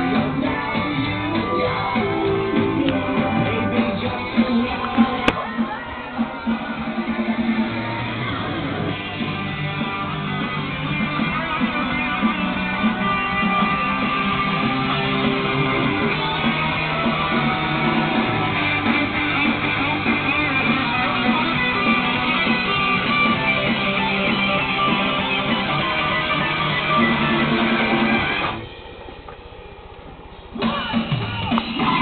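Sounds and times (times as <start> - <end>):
guitar-led instrumental music: 0.0 - 28.8.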